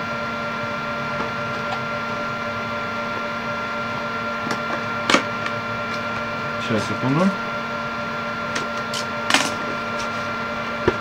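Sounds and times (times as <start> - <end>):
machine-like hum: 0.0 - 11.0.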